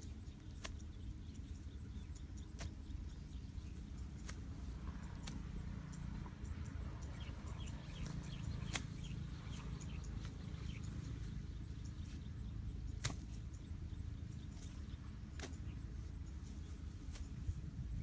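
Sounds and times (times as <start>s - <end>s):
low wind rumble: 0.0s - 18.0s
small birds chirping: 0.0s - 18.0s.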